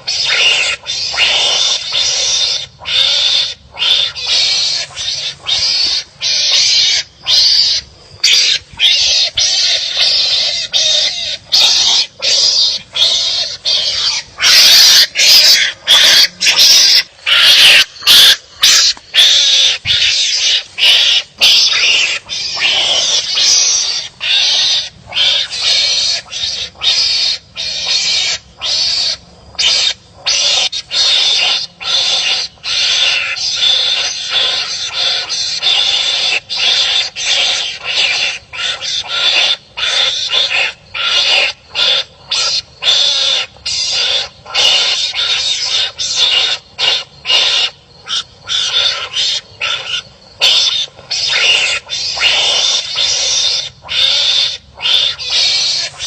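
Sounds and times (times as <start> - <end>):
animals barking and squabbling: 0.0 - 56.0.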